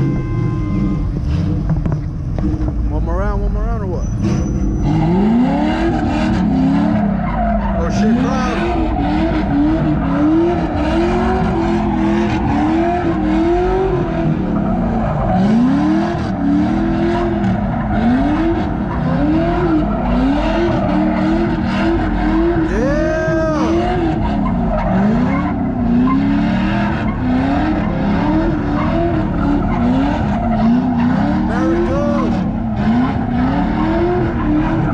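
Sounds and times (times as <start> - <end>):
car engine revving: 0.0 - 34.9
tyres skidding on pavement: 0.0 - 34.9.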